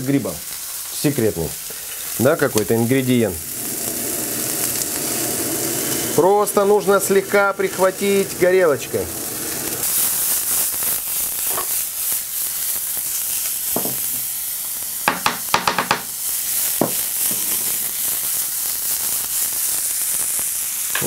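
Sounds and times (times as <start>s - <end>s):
mushrooms sizzling in oil: 0.0s - 21.0s.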